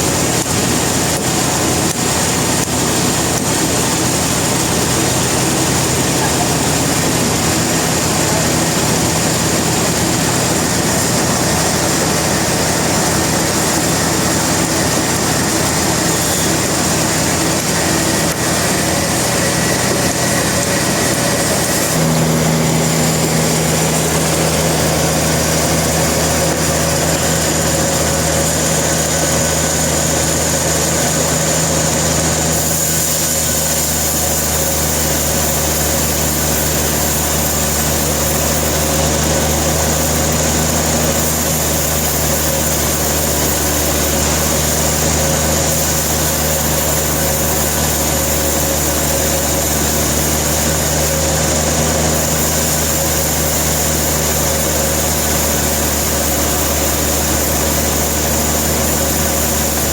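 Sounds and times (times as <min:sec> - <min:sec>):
sawmill machinery humming: 0:00.0 - 0:59.9.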